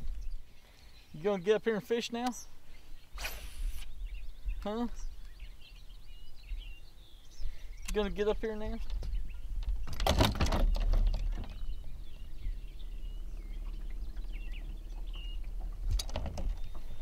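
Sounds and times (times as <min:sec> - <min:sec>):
faint bird chirps: 0:00.0 - 0:09.9, 0:10.8 - 0:15.7
low steady hum: 0:00.0 - 0:17.0.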